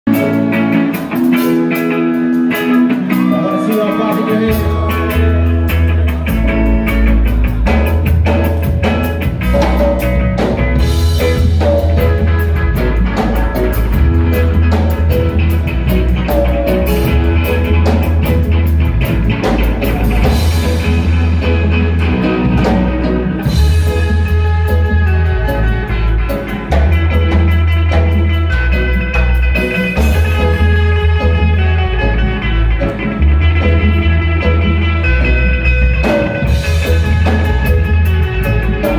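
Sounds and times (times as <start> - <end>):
bass line: 0.0 - 38.9
electric guitar: 0.0 - 38.9
drum kit: 0.1 - 38.9.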